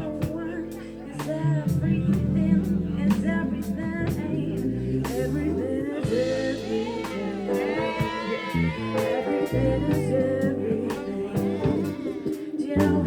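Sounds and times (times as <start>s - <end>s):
bass line: 0.0s - 13.0s
drum kit beat: 0.0s - 13.0s
person singing: 0.0s - 13.0s.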